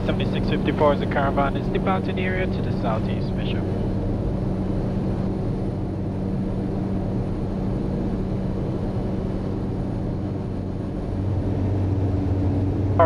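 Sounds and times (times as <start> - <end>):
turboprop engine drone in cockpit: 0.0 - 13.0.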